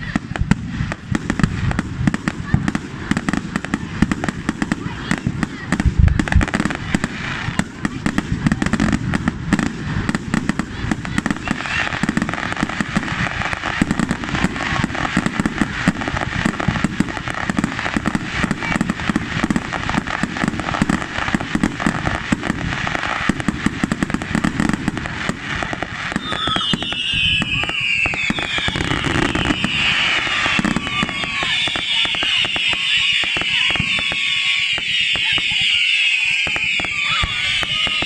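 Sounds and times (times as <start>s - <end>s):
fireworks crackling and popping: 0.0s - 38.0s
voices: 2.1s - 21.3s, 25.6s - 38.0s.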